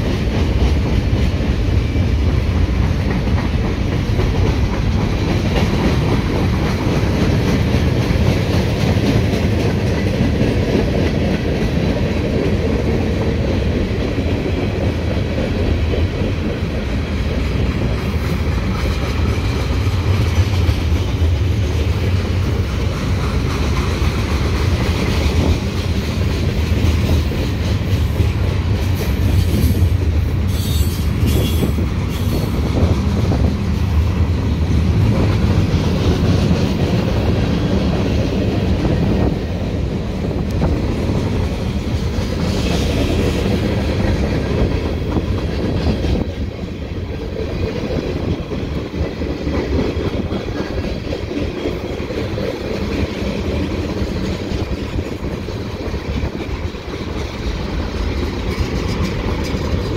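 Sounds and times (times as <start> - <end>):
freight train rumbling: 0.0 - 59.9
wheels clacking over rail joints: 0.0 - 59.9.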